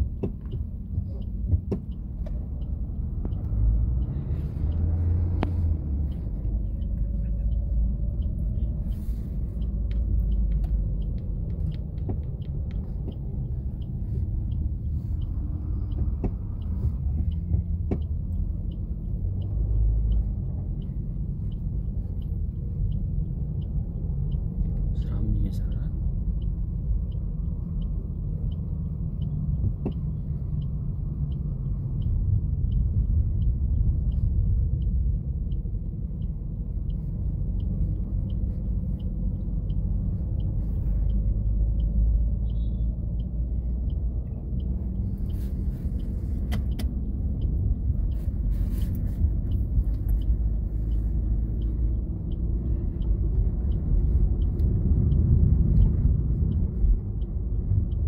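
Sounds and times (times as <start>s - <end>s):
car engine and road rumble: 0.0s - 58.0s
faint even ticking: 0.0s - 58.0s.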